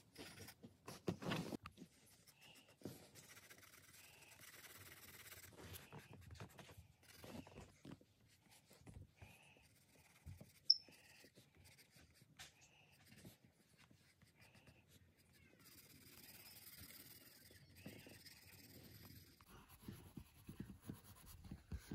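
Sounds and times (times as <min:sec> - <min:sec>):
pencil scratching on paper: 0:00.0 - 0:21.9.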